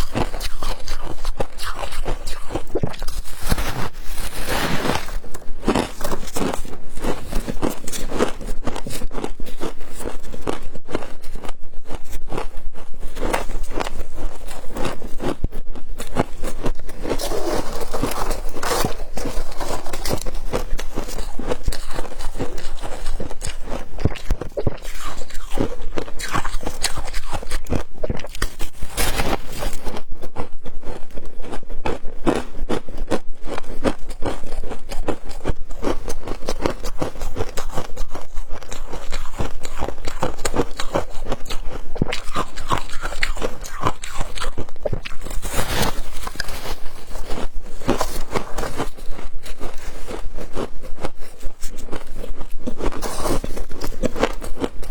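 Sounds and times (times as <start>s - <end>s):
crunching and chewing ice: 0.0s - 54.9s.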